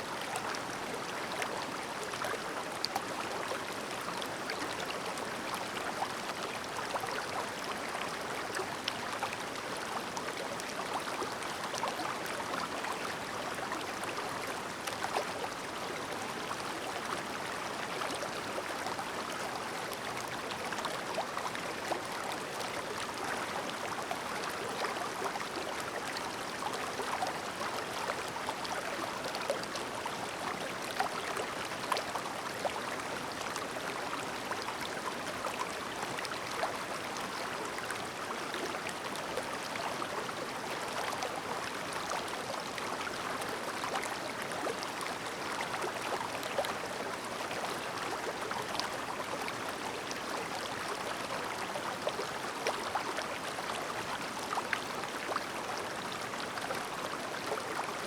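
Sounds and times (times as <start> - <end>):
stream babbling over stones: 5.0 - 58.0.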